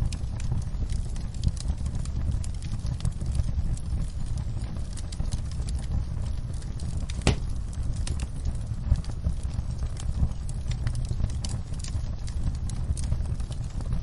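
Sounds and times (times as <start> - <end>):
fire pops and snaps: 0.0 - 14.0
wood fire crackling: 0.0 - 14.0.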